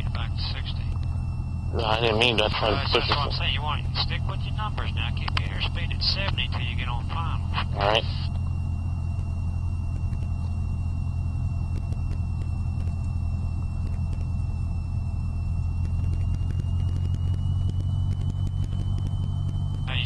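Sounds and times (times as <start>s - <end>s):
faint high whine: 0.0s - 20.0s
propeller plane engine droning: 0.0s - 20.0s.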